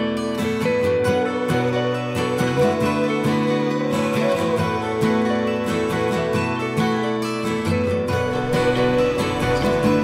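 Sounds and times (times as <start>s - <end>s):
guitar-led song: 0.0s - 10.0s.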